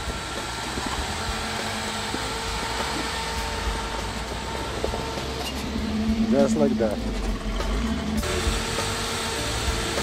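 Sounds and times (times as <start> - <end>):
vehicle engine under load: 0.0 - 10.0.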